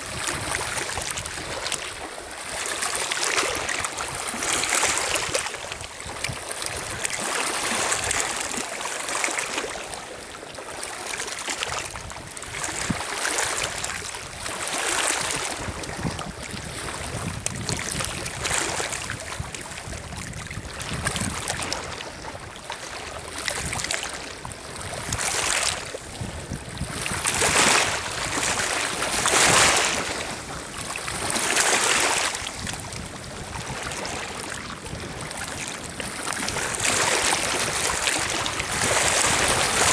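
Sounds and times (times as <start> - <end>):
waves lapping on pebbly shore: 0.0 - 39.9.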